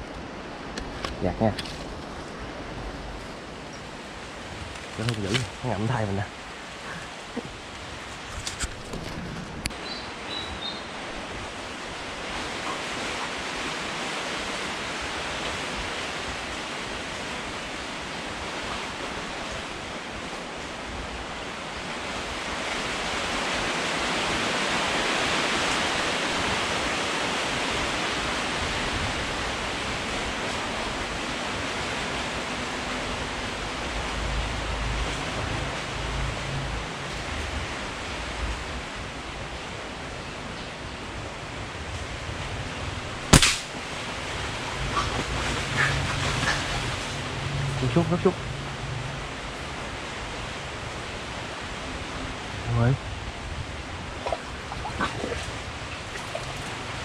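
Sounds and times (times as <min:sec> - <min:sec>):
wind through palm fronds: 0:00.0 - 0:57.0.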